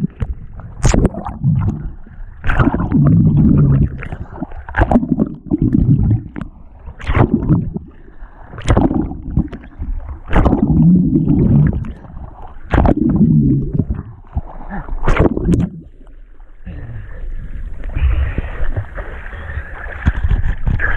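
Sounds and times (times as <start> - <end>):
muffled underwater swimming splashes: 0.0 - 20.9.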